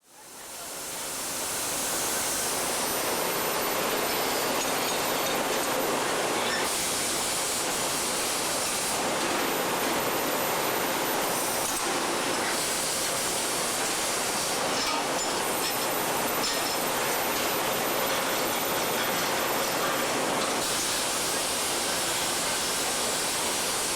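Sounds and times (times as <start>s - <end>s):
welding arc hissing crackle: 1.2s - 23.9s.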